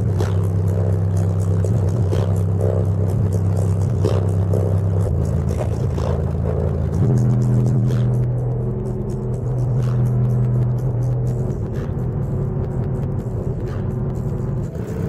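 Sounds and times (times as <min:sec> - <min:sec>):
deep bass notes: 0:00.0 - 0:15.0.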